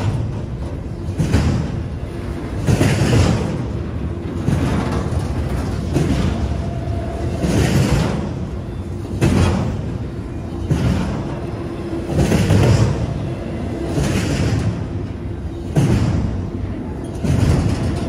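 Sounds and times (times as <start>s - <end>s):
freight train rolling past: 0.0s - 18.0s
steel wheels clattering on rail: 0.0s - 18.0s.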